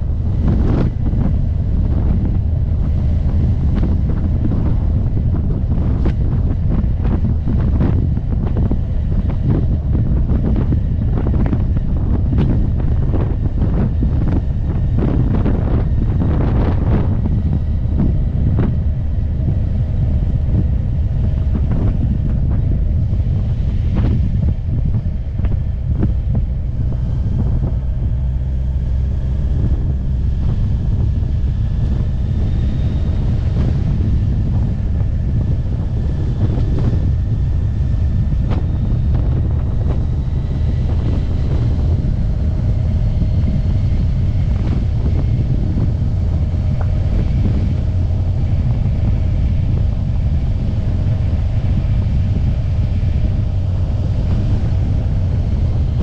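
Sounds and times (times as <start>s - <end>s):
faint whine: 0.0s - 56.0s
motorcycle engine running: 0.0s - 56.0s
wind buffeting microphone: 0.0s - 56.0s.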